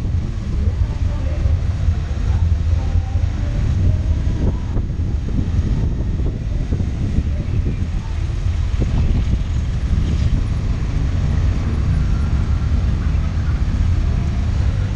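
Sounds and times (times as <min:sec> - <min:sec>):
motorcycle engine rumbling: 0:00.0 - 0:14.9.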